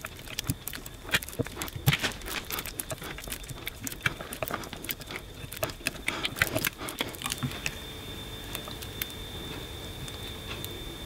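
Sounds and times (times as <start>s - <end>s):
faint high whine: 0.1s - 11.0s.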